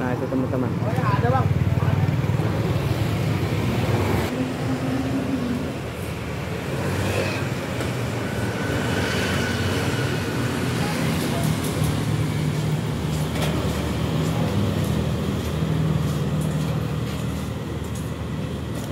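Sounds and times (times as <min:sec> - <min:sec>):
rumble of passing vehicles: 0:00.0 - 0:18.9.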